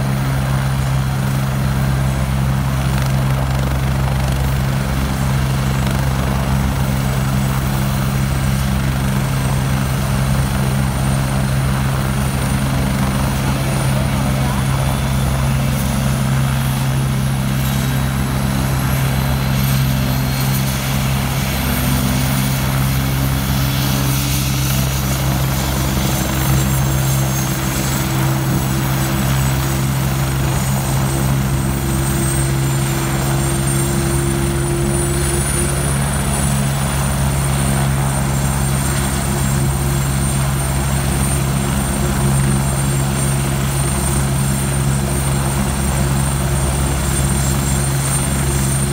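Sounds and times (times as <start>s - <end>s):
helicopter engine drone and whine: 0.0s - 48.9s.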